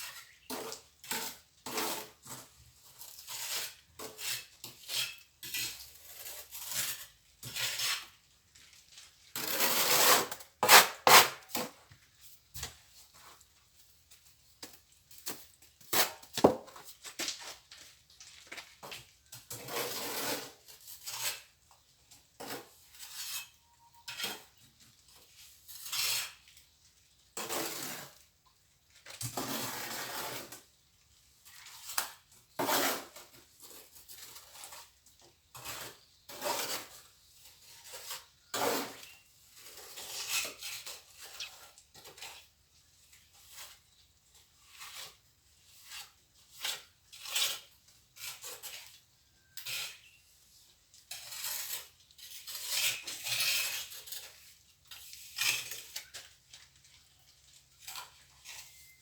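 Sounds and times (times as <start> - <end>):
trowel scraping mortar: 0.0 - 8.4, 9.1 - 13.4, 18.8 - 21.6, 22.2 - 26.7, 27.4 - 28.3, 29.2 - 30.7, 31.5 - 59.0.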